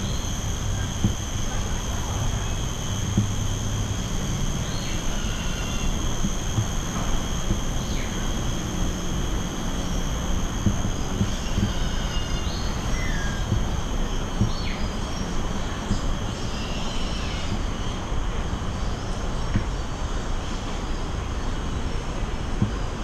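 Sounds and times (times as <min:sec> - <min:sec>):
thin steady high tone: 0:00.0 - 0:20.0
low outdoor rumble: 0:00.0 - 0:23.0.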